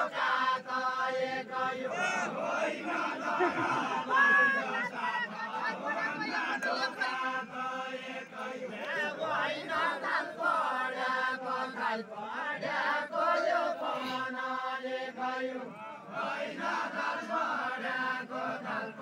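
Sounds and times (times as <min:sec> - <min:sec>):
group singing folk chant: 0:00.0 - 0:19.0.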